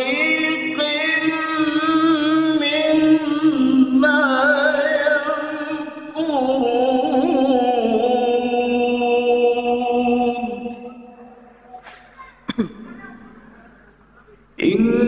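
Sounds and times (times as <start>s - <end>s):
man reciting in melodic chant: 0.0s - 11.8s, 13.0s - 15.0s.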